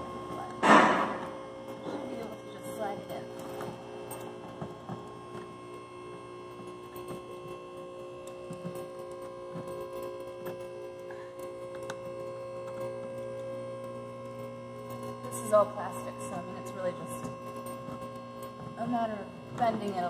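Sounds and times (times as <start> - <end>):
steady hum of held tones: 0.0 - 20.0.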